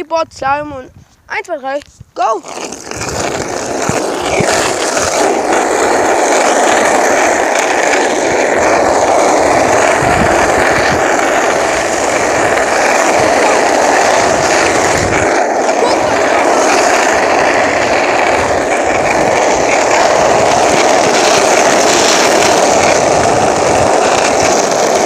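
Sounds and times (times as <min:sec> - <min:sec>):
skateboard wheels rolling on asphalt: 0:00.6 - 0:25.0.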